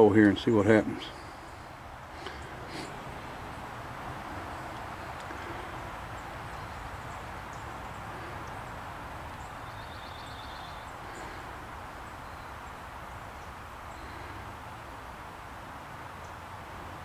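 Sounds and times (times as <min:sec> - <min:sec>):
bird chirping faintly: 0:00.0 - 0:14.8
blower fan whirring: 0:00.0 - 0:17.0.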